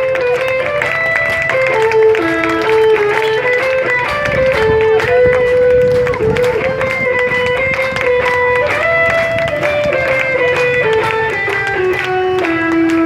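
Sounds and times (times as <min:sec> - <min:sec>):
guitar melody: 0:00.0 - 0:13.0.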